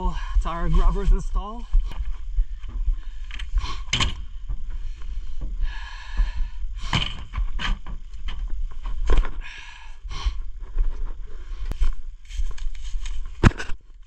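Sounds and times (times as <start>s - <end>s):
low rumble: 0.0s - 13.4s.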